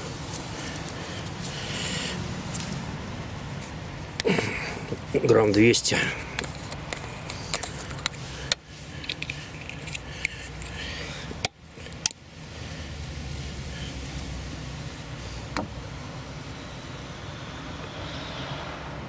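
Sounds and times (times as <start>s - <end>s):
car engine idling: 0.0s - 18.4s.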